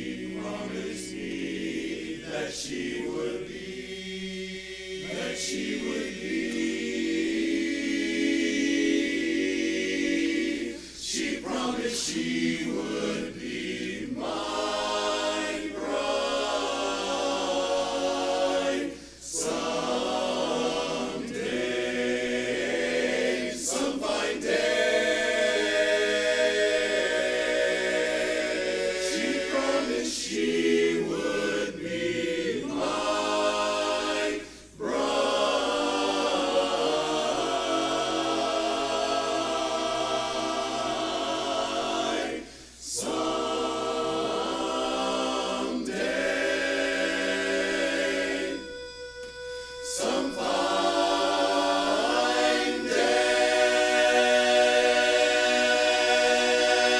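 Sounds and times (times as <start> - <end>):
chorus singing a cappella in harmony: 0.0 - 56.9.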